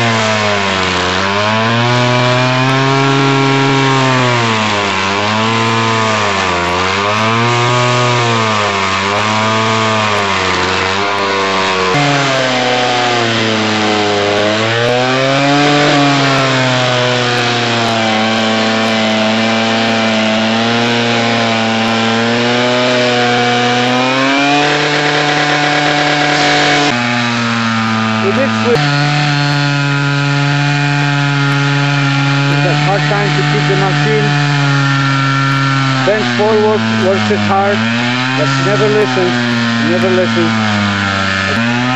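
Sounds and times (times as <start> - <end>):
cutting wheel chewing wood: 0.0 - 41.9
stump grinder engine bogging: 0.0 - 41.9.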